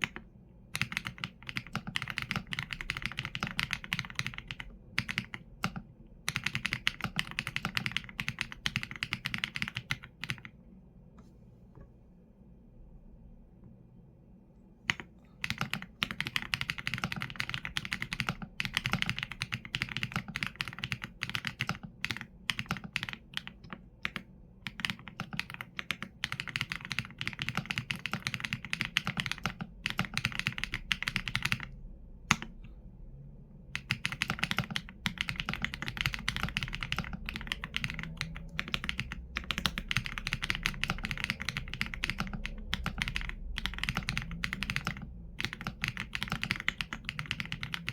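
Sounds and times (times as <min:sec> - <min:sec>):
typing on mechanical keyboard: 0:00.0 - 0:10.5, 0:14.9 - 0:32.6, 0:33.8 - 0:47.9.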